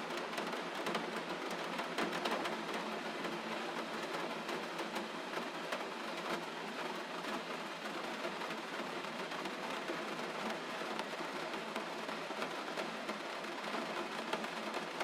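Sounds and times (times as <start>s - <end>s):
gentle rain: 0.0s - 15.0s.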